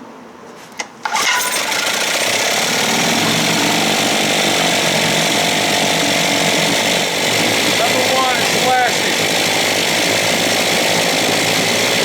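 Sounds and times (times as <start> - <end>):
power tool spinning engine whir: 1.0 - 12.0.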